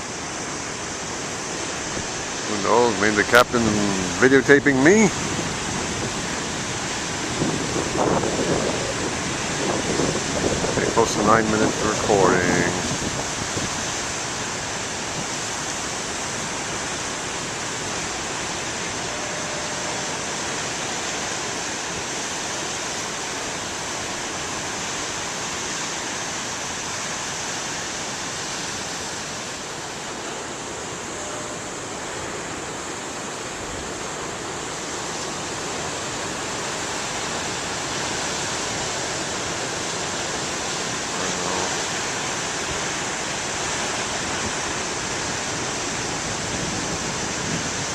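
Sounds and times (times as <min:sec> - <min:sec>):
ocean waves breaking: 0:00.0 - 0:47.9.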